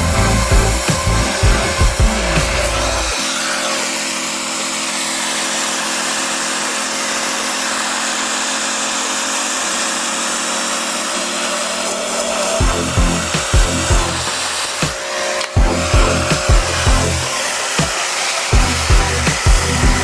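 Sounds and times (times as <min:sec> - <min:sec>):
power tool running with hiss: 0:00.0 - 0:20.0.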